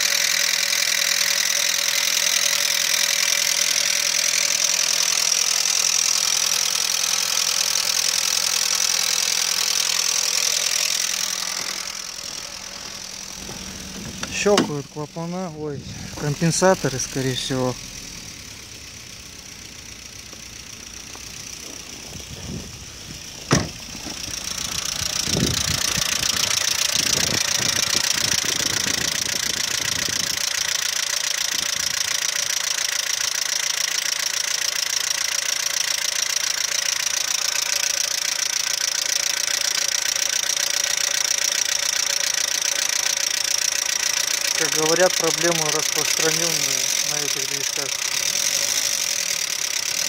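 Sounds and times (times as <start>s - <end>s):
car engine idling with knocking: 0.0s - 50.0s.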